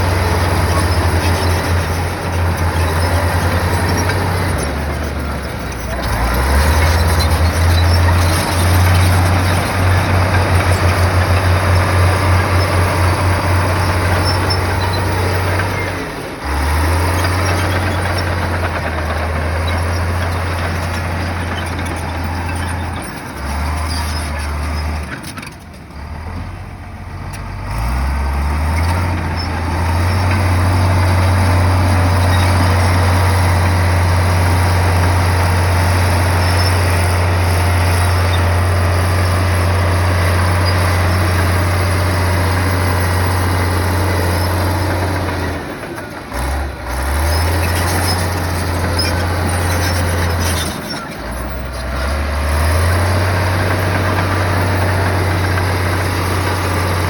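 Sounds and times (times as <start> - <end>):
bulldozer diesel engine droning: 0.0 - 57.0
track and ground noise: 0.0 - 57.0.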